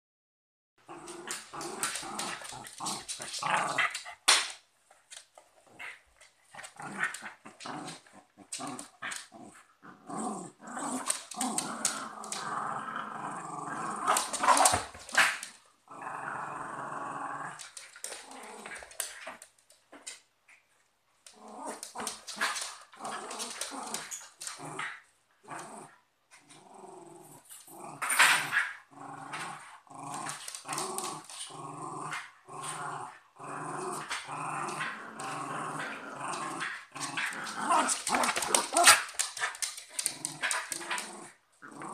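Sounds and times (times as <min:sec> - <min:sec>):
dogs growling: 0:00.8 - 0:04.2, 0:06.6 - 0:19.4, 0:21.3 - 0:41.9.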